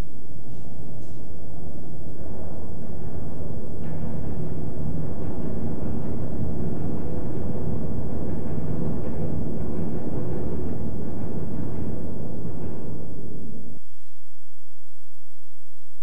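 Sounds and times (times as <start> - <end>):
low rumble with faint hum: 0.0 - 16.0.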